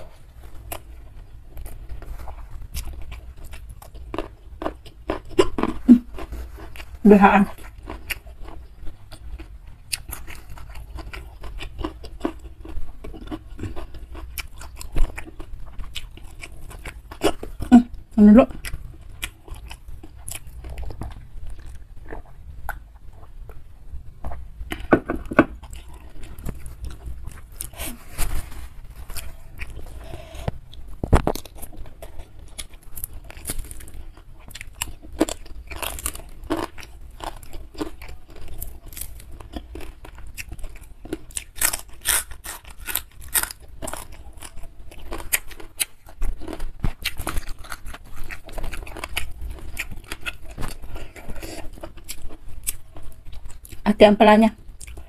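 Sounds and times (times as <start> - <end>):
person chewing and crunching food: 0.0 - 53.8, 54.5 - 55.0.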